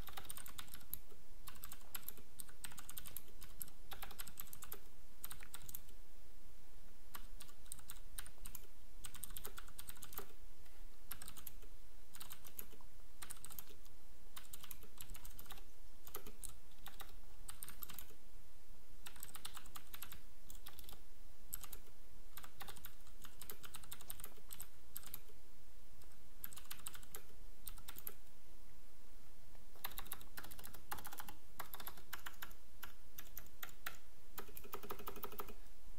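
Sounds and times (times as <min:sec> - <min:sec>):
mechanical keyboard typing clicks: 0:00.0 - 0:05.9, 0:07.1 - 0:10.4, 0:11.1 - 0:18.2, 0:19.0 - 0:25.3, 0:26.0 - 0:28.2, 0:29.8 - 0:35.6.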